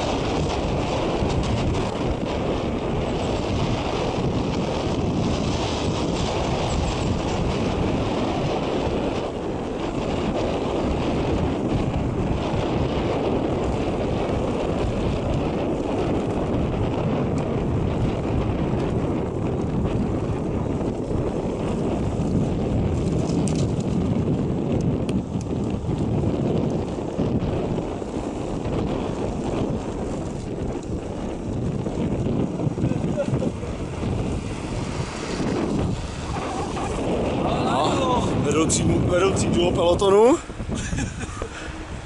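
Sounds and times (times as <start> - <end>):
road noise: 0.0 - 42.0
wind buffeting microphone: 0.0 - 42.0.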